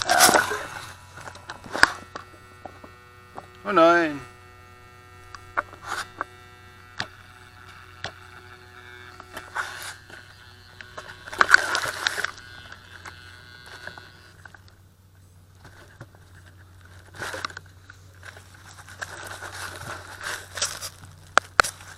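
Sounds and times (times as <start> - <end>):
faint whine: 0.0 - 21.9
grass rustling on microphone: 0.0 - 21.9
steady electrical hum: 0.0 - 21.9.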